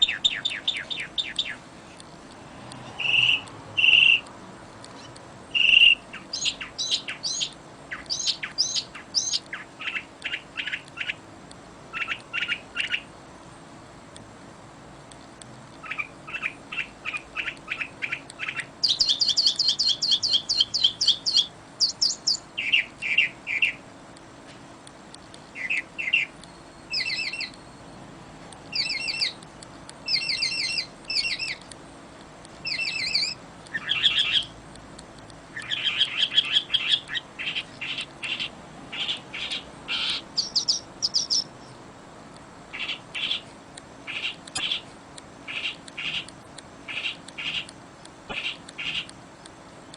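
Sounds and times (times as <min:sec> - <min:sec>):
songbirds chirping and trilling: 0:00.0 - 0:14.1, 0:14.9 - 0:49.9.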